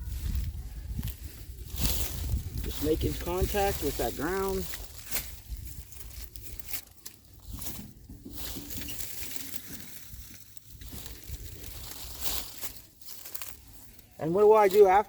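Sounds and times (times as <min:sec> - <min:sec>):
leaves and soil rustling: 0:00.0 - 0:15.0.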